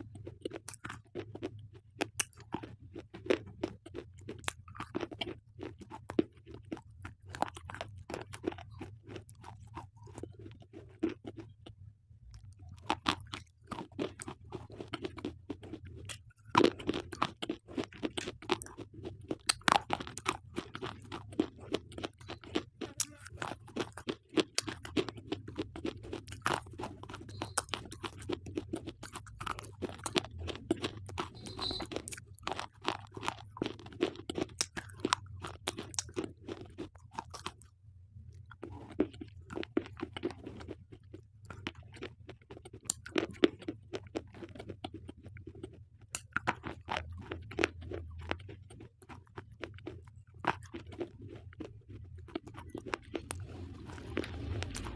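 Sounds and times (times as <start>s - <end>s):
slate pencils being chewed: 0.0s - 54.9s.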